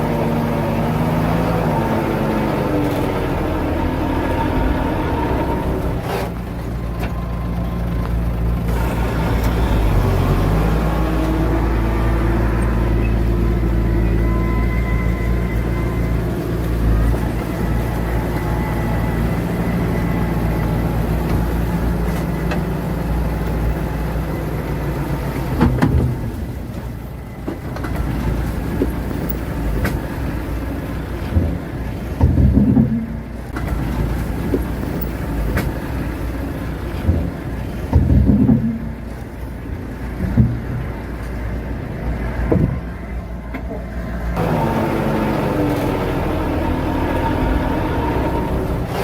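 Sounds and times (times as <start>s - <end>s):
heavy diesel engine labouring: 0.0s - 49.0s.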